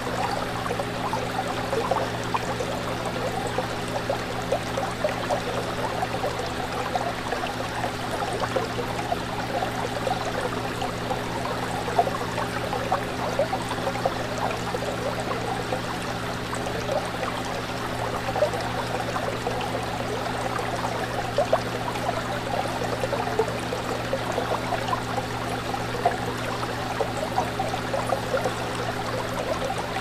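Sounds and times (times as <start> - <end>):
fish tank water bubbling: 0.0 - 30.0.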